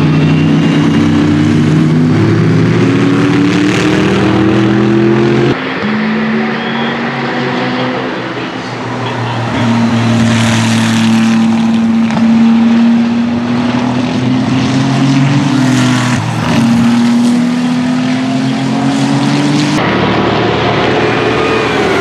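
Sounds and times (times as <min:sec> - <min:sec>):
racing car engine at high revs: 0:00.0 - 0:22.0.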